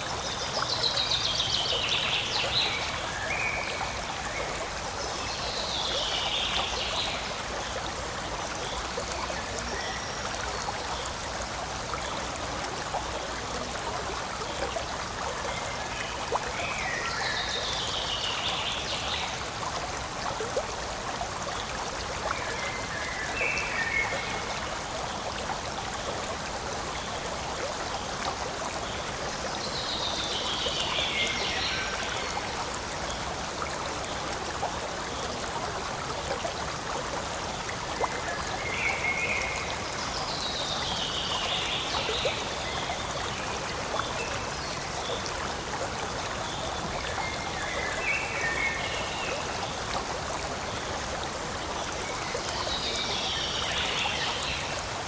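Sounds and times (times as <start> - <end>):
stream flowing and trickling: 0.0 - 55.0.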